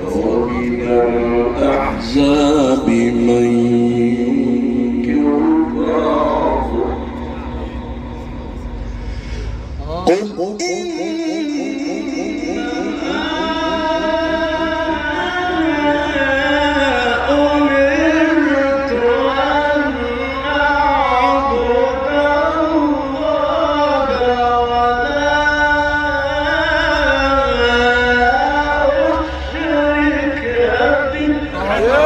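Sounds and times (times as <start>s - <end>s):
man chanting melodically: 0.0s - 32.0s.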